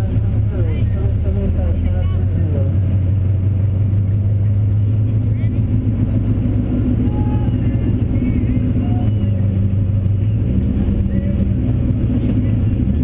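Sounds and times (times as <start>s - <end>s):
car engine droning at low revs: 0.0s - 13.0s.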